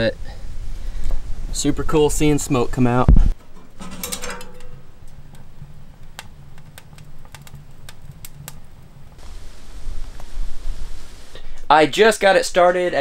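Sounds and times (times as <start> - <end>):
kindling fire crackling and popping: 0.5 - 12.7.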